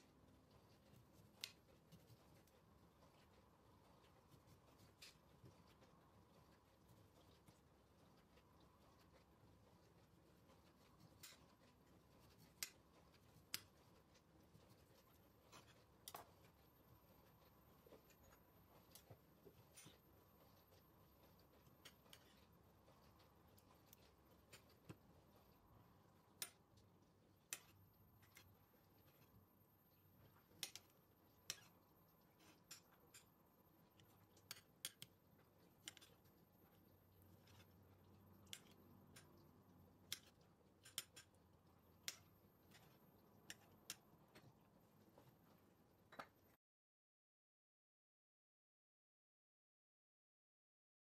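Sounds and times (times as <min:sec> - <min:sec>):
faint steady hum: 0:00.0 - 0:46.5.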